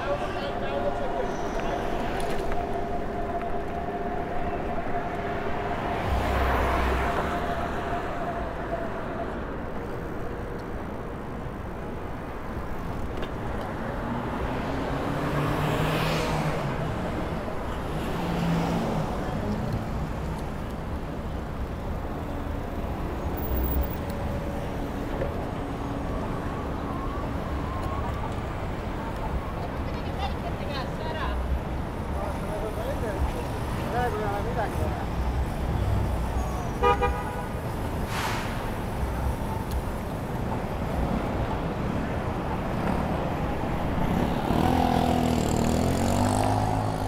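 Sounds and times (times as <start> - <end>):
cars passing: 0.0 - 47.0
road noise: 0.0 - 47.0.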